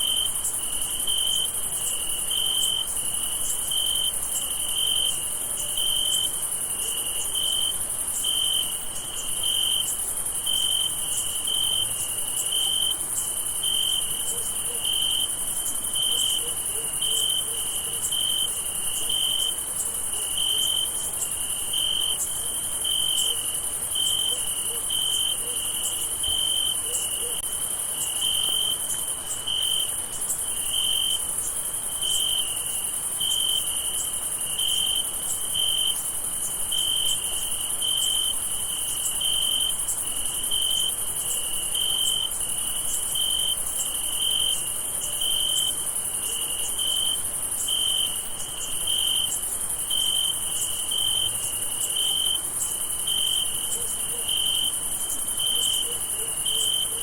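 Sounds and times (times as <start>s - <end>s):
crickets trilling: 0.0s - 57.0s
lower cricket chirp: 0.0s - 57.0s.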